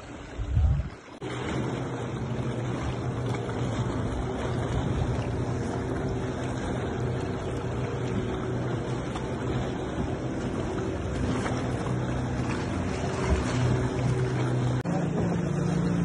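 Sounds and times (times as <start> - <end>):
motorboat engine hum: 0.0 - 16.0
water noise at sea: 0.0 - 16.0
wind on microphone: 0.1 - 14.4.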